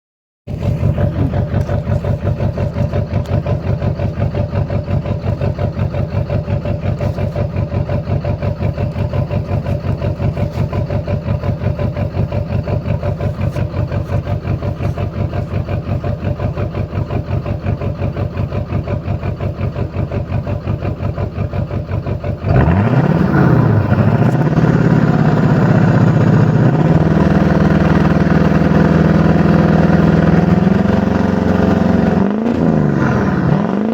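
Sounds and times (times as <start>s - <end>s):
diesel engine idling and revving: 0.5s - 33.9s.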